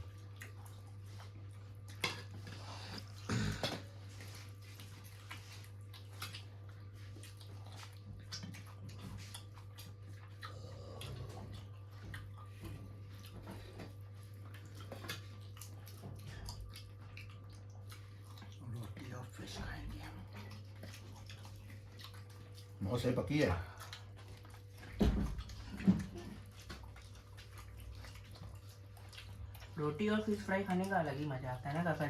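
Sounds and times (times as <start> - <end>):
eating and chewing clicks: 0.0 - 32.0
steady low hum: 0.0 - 32.0.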